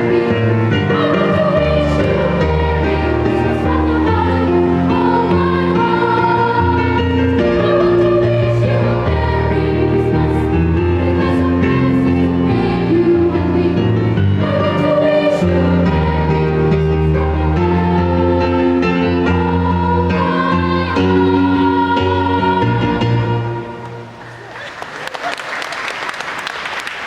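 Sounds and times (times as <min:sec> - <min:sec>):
steady bass accompaniment: 0:00.0 - 0:24.2
children's choir singing: 0:00.0 - 0:24.3.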